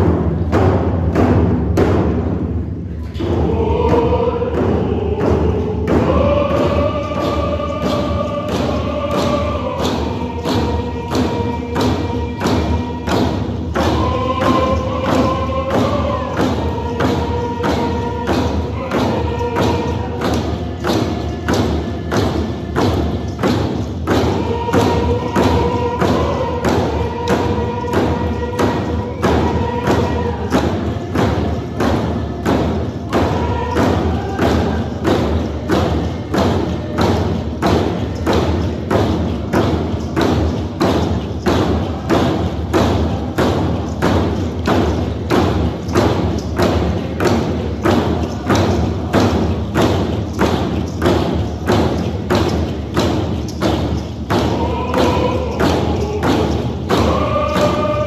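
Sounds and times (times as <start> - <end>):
hand drums beating: 0.0 - 58.0
group singing: 2.9 - 58.0.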